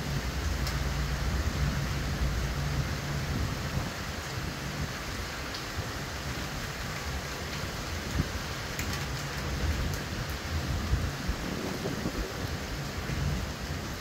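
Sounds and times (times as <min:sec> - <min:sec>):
heavy rain hissing: 0:00.0 - 0:14.0
wind gusts on microphone: 0:00.0 - 0:14.0.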